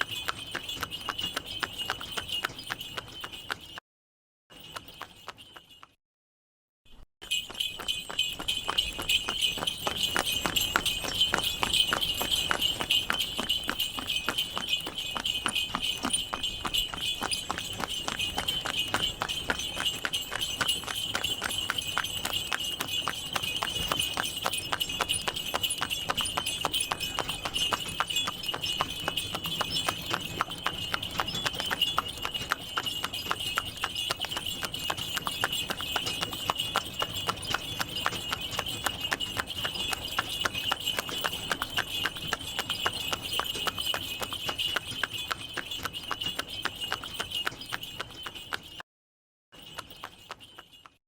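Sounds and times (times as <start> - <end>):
high jingling: 0.0 - 3.8, 4.6 - 5.9, 7.2 - 48.8, 49.6 - 51.0
horse hooves clip-clopping: 0.0 - 3.8, 4.6 - 5.9, 7.2 - 48.8, 49.6 - 51.0.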